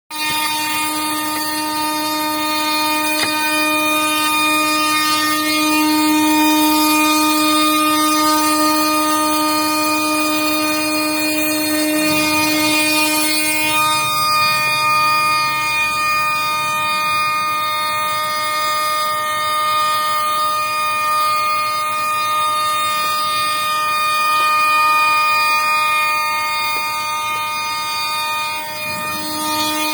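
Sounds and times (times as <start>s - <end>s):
router spindle whining: 0.1s - 29.9s.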